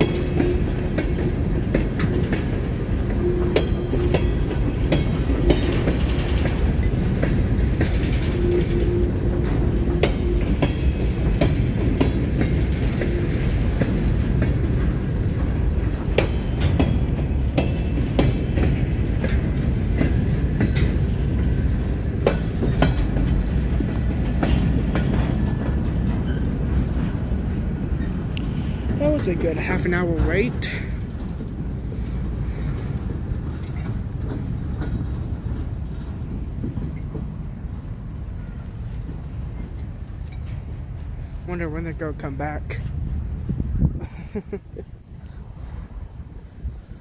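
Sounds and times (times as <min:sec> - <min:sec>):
train wheels rumbling on rails: 0:00.0 - 0:47.0
wheels clicking over rail joints: 0:00.0 - 0:47.0.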